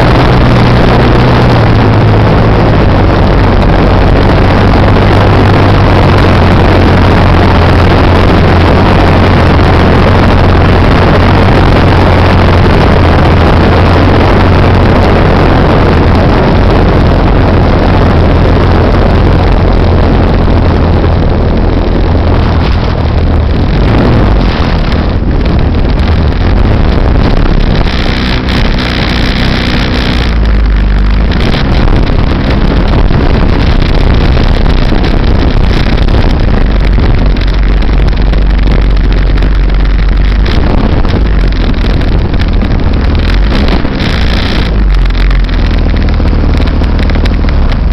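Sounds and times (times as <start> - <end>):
wind rushing on microphone: 0.0 - 47.9.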